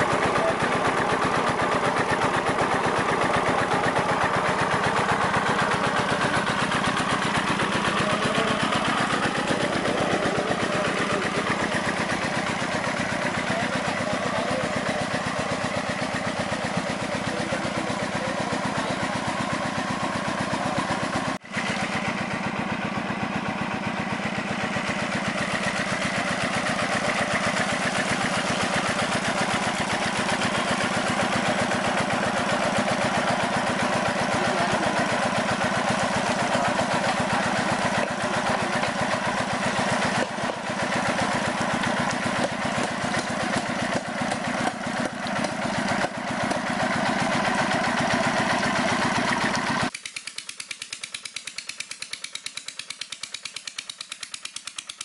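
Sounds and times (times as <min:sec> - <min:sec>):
diesel engine running: 0:00.0 - 0:54.8.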